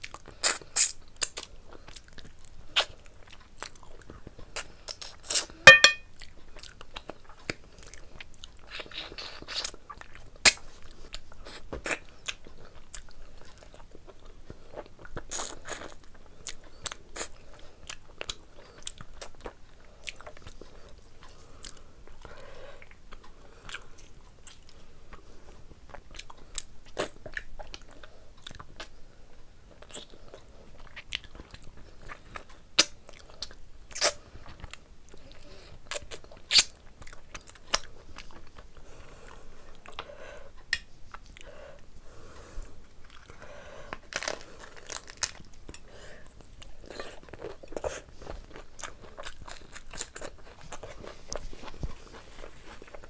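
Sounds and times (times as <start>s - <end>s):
person chewing food: 0.0s - 29.0s, 29.7s - 53.0s.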